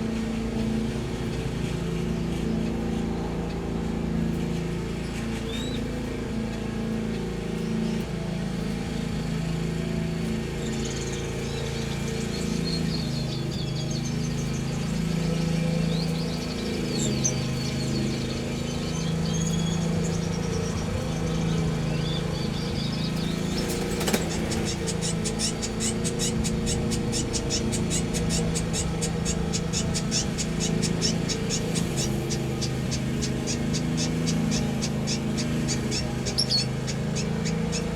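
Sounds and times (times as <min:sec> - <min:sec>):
loud low hum: 0:00.0 - 0:37.9
small birds chirping: 0:00.0 - 0:37.9.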